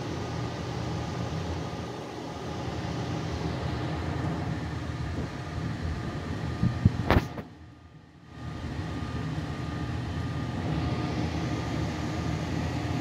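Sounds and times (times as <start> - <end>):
furnace fan motor humming: 0.0 - 13.0.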